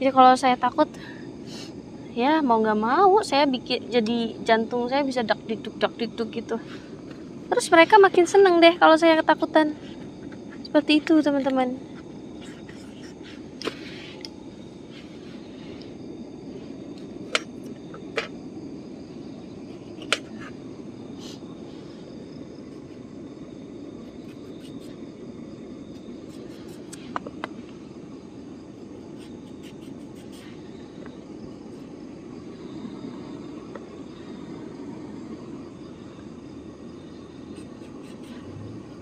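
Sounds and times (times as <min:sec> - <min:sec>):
faint high steady tones: 0:00.0 - 0:39.0.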